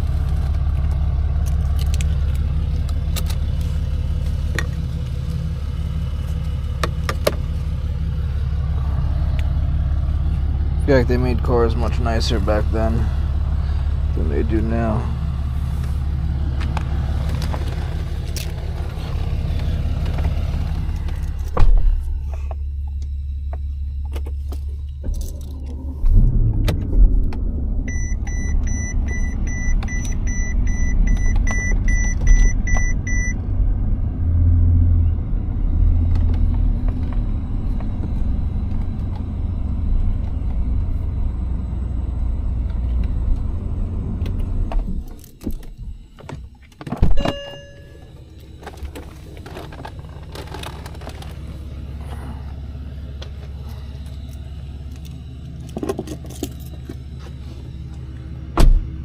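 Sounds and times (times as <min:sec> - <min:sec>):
road rumble: 0:00.0 - 0:59.0
truck engine running: 0:00.0 - 0:59.0.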